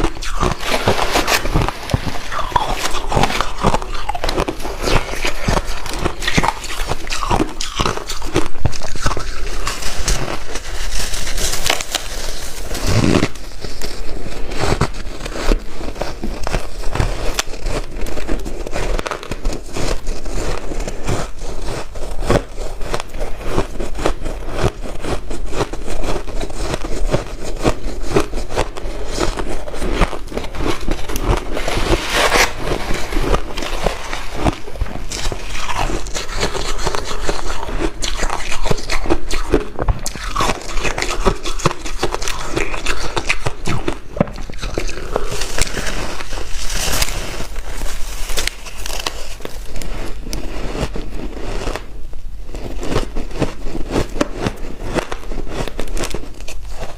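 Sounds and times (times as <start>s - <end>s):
ice being chewed: 0.0s - 56.9s.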